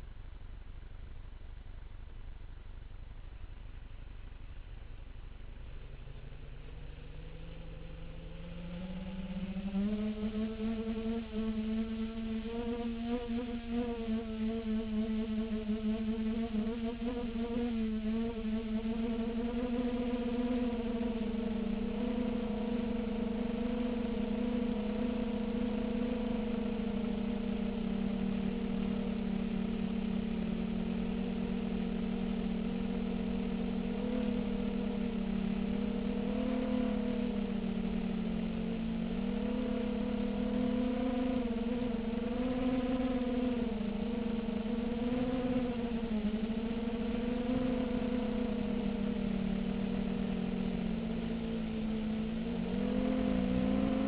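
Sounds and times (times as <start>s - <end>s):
quadcopter motors buzzing: 5.8s - 54.0s.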